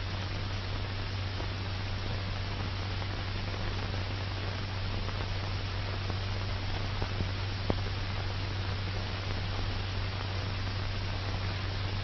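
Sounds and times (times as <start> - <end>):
film soundtrack hiss: 0.0 - 12.0.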